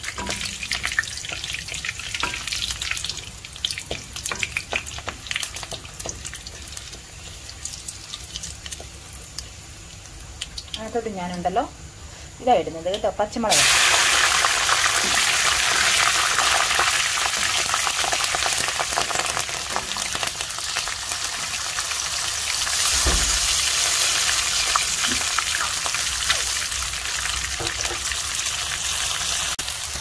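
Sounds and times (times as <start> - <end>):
chillies sizzling in hot oil: 0.0 - 30.0.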